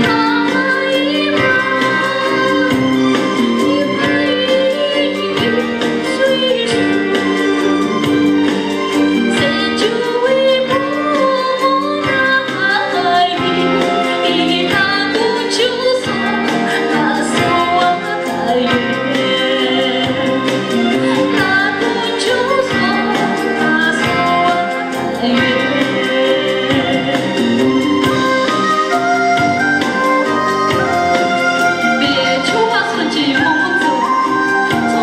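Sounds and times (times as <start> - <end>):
instrumental music with steady beat: 0.0 - 35.0
woman singing into microphone: 0.0 - 35.0.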